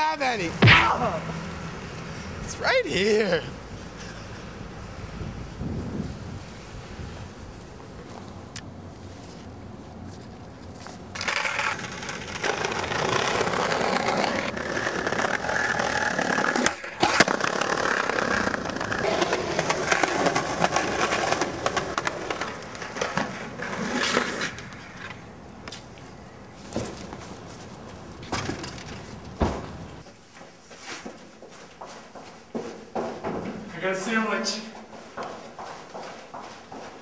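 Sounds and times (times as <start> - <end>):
skateboard wheels rolling on pavement: 0.0 - 37.0.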